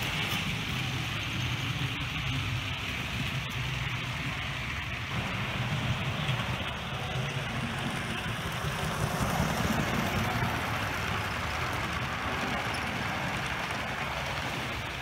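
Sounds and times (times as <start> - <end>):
model train rumbling on rails: 0.0 - 15.0.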